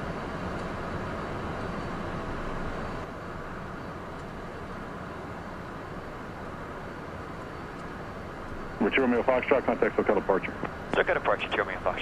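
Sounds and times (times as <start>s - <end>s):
jet engine and airflow rushing: 0.0s - 12.0s.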